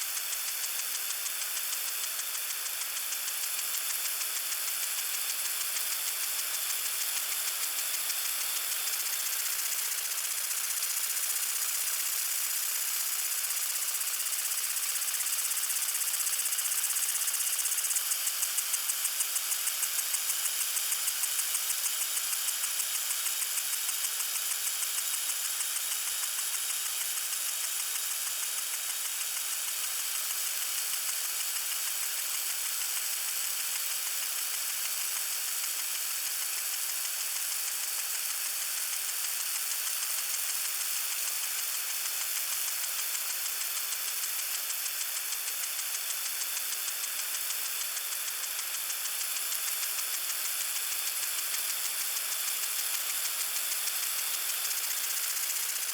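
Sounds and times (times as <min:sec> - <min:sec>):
water sprinkler spraying: 0:00.0 - 0:55.9.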